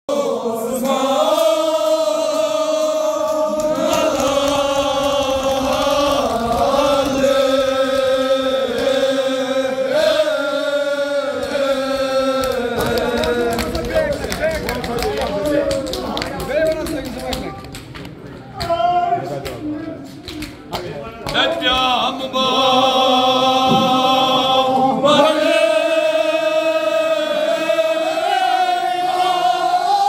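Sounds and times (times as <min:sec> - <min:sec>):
men chanting a slow lament: 0:00.1 - 0:16.2, 0:20.8 - 0:30.0.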